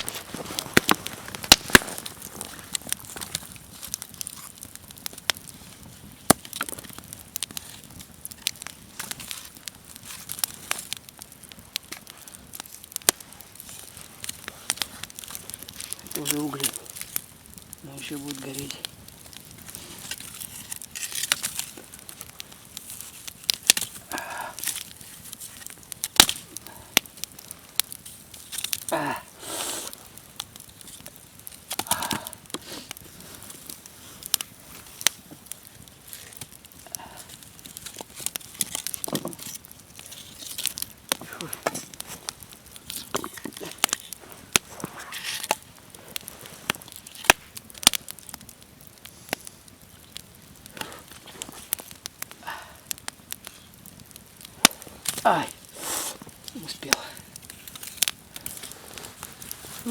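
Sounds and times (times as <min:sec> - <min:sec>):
campfire embers crackling and popping: 0:00.0 - 0:59.9.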